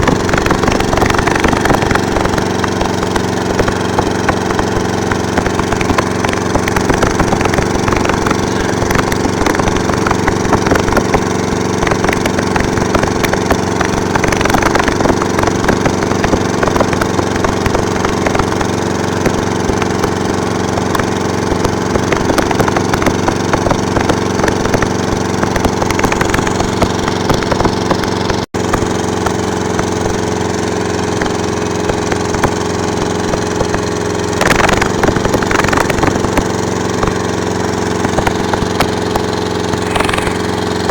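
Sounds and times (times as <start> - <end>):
dense crackling and rattling: 0.0 - 40.9.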